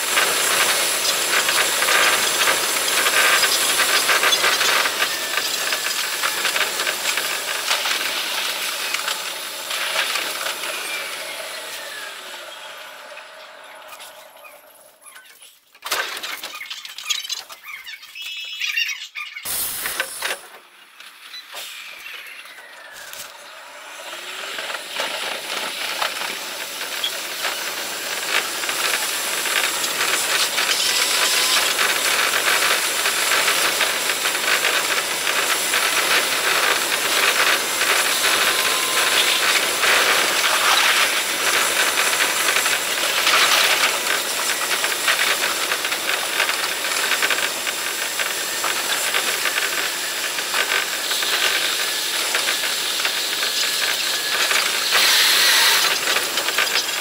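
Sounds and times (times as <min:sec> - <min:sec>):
sped-up train running noise: 0:00.0 - 0:15.0, 0:19.5 - 0:57.0.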